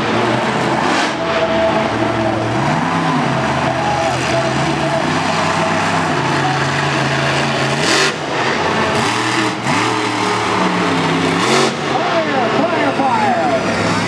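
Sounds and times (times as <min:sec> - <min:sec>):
arena crowd noise: 0:00.0 - 0:14.0
loud rush of noise: 0:00.0 - 0:14.0
monster truck engine revving: 0:00.0 - 0:14.0.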